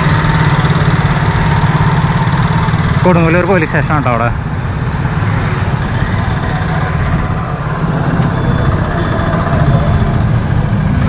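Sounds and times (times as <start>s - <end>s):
road noise: 0.0s - 11.0s
scooter and motorcycle engines: 0.0s - 11.0s.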